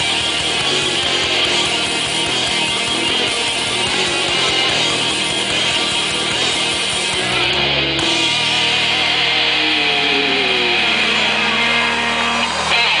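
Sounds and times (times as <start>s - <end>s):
bass guitar: 0.0s - 13.0s
distorted electric guitars: 0.0s - 13.0s
drums: 0.0s - 13.0s.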